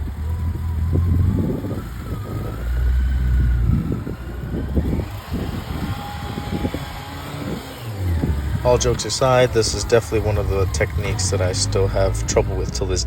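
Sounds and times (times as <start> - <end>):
motorcycle engine rumble: 0.0 - 13.0
wind noise on microphone: 0.0 - 13.0.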